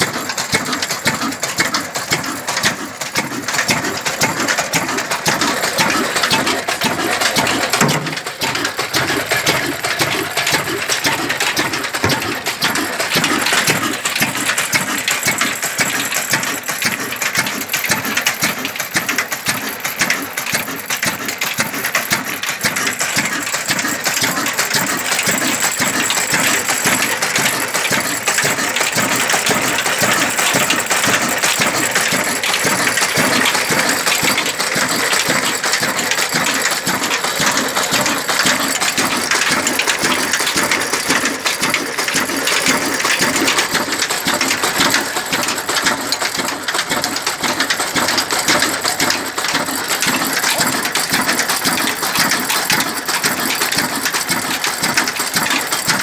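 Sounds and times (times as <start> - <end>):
rapid metallic clatter: 0.0 - 56.0
stationary engine running: 0.0 - 56.0.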